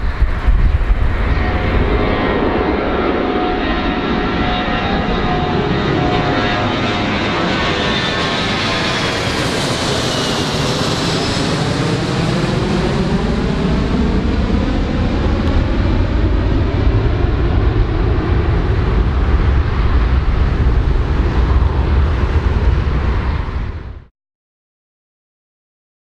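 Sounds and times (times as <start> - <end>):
airplane engine whine: 0.0 - 24.1
deep engine rumble: 0.0 - 24.1.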